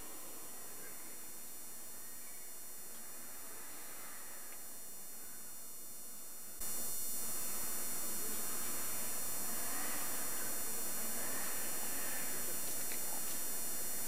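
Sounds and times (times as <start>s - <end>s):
distant voices: 0.0s - 5.5s, 7.2s - 14.0s
camcorder hiss: 0.0s - 14.0s.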